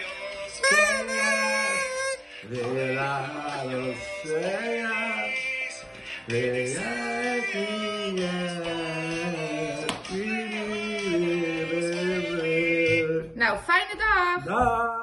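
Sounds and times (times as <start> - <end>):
man and woman singing: 0.0 - 13.4, 14.4 - 15.0.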